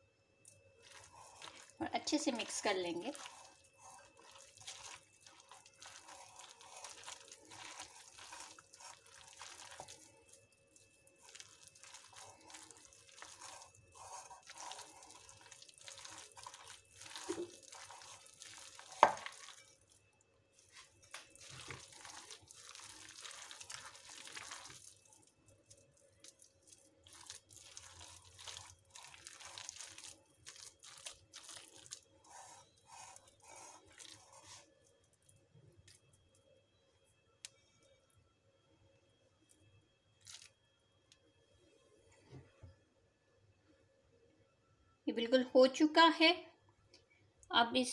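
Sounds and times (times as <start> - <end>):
hands kneading wet batter: 0.4 - 38.1, 39.4 - 41.5.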